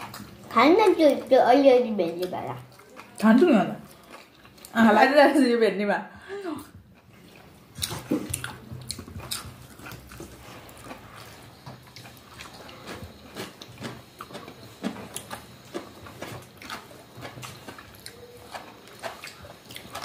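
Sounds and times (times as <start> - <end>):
wet chewing and mouth smacks: 0.0 - 1.3, 2.0 - 4.8, 6.7 - 20.0.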